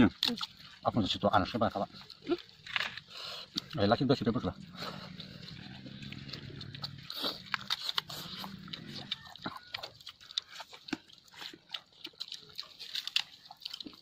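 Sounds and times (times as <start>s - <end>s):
wet chewing and lip smacking: 0.0s - 14.0s
crunchy bites of fried food: 1.5s - 14.0s.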